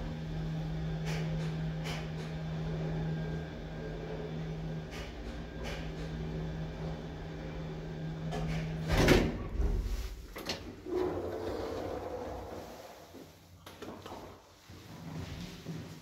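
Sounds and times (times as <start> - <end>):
lift humming: 0.0 - 13.2.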